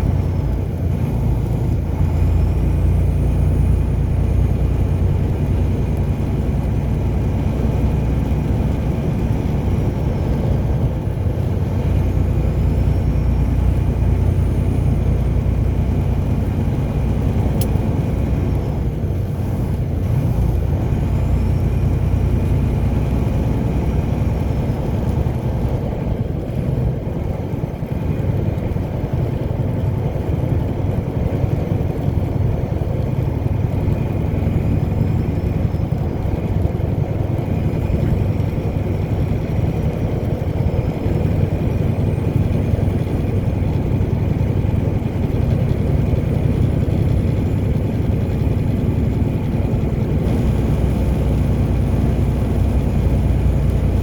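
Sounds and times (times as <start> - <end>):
car driving: 0.0 - 54.0.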